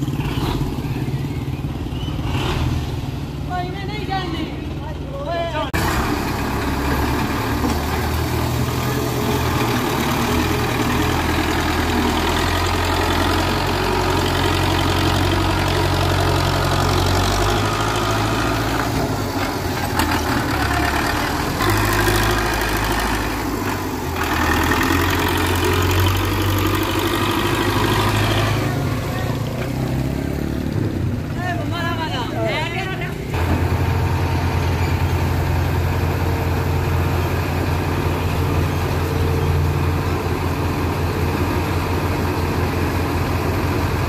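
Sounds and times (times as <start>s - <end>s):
tractor diesel engine running: 0.0s - 2.4s, 3.1s - 44.0s.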